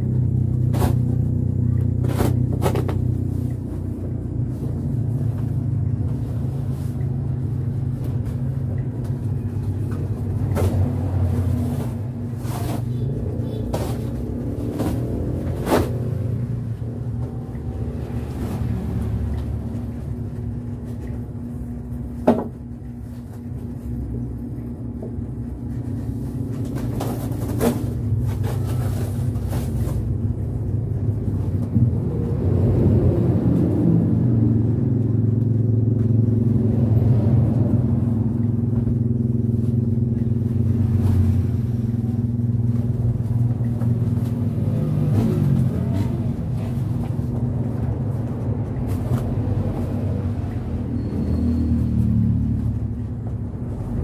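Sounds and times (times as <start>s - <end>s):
low motor hum: 0.0s - 54.0s.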